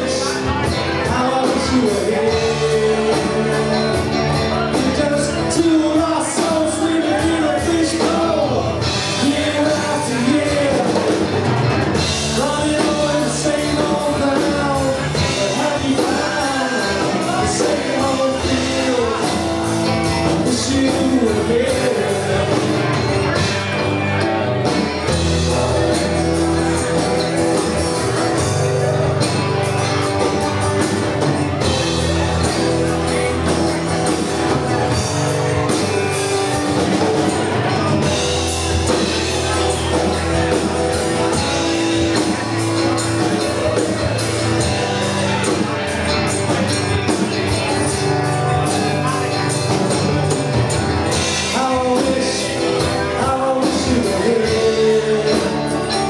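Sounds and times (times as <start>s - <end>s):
lead singer singing: 0.0s - 27.1s, 31.3s - 56.0s
live rock band playing: 0.0s - 56.0s.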